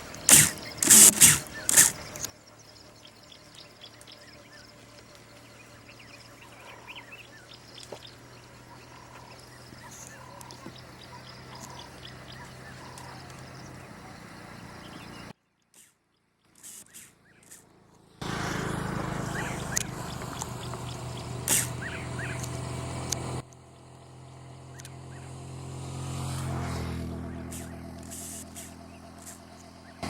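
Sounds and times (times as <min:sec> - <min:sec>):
wild birds calling: 0:00.0 - 0:30.0.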